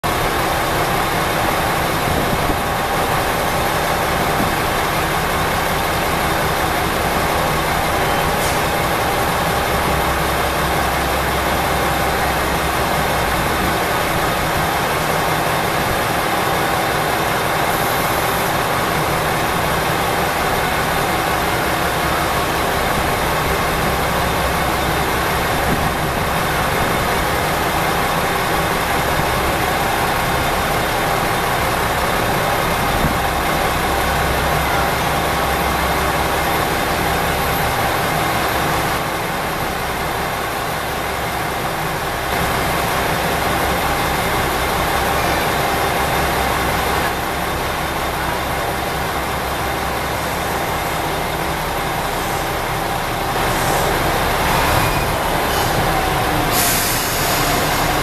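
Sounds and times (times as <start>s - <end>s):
diesel engines idling: 0.0s - 58.0s.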